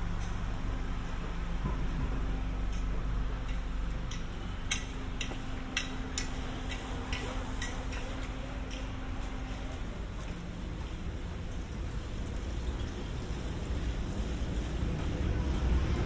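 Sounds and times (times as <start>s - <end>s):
steady low hum: 0.0s - 16.0s
footsteps on paved street: 2.7s - 15.7s.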